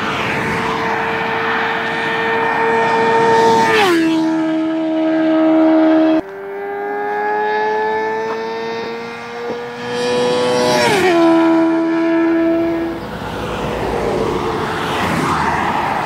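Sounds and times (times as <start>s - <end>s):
sport motorcycle passing at high revs: 0.0s - 16.0s.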